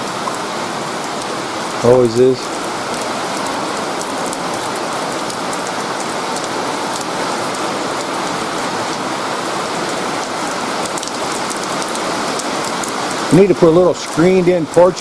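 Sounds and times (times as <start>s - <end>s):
rain shower with drops ticking: 0.0s - 15.0s.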